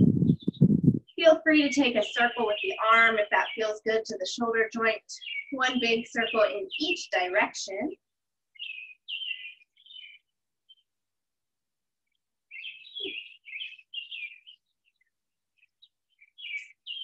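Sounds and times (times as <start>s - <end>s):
songbird chirping and warbling: 0.0s - 11.0s, 12.1s - 17.0s.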